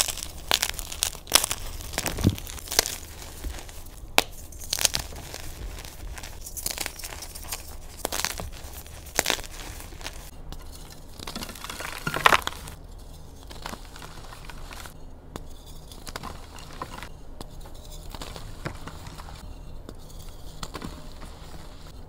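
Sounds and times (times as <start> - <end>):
chalk crunching and crumbling: 0.0 - 22.0.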